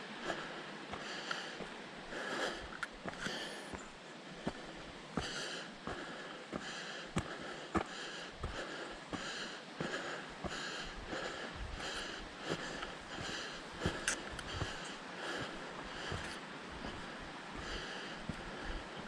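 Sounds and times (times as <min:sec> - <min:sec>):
person breathing: 0:00.1 - 0:19.0
footsteps on dirt trail: 0:00.2 - 0:19.0.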